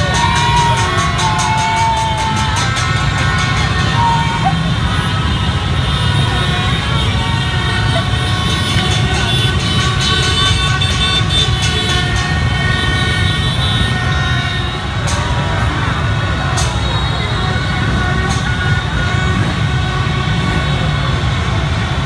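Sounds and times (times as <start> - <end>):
scattered voices: 0.0 - 13.3, 14.0 - 22.0
horns tooting and blaring: 0.0 - 22.0
low rumble of engines: 0.0 - 22.0.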